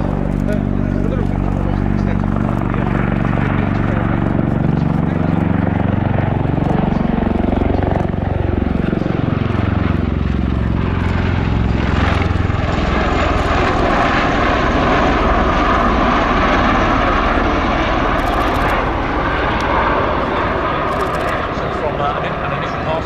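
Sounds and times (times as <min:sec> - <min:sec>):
tilt-rotor aircraft pulsing rotors: 0:00.0 - 0:23.0.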